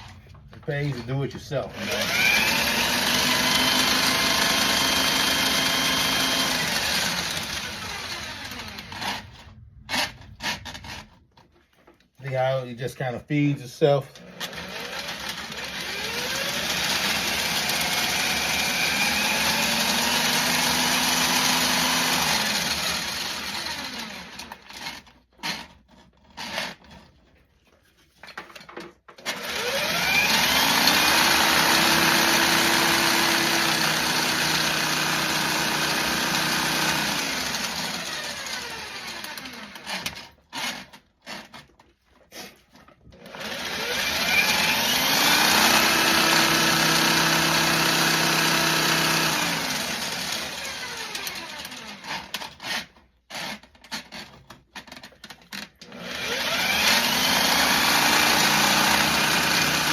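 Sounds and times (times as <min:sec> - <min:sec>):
drill motor spinning: 0:00.0 - 0:11.4, 0:14.1 - 0:27.2, 0:28.3 - 0:41.8, 0:42.4 - 0:59.9.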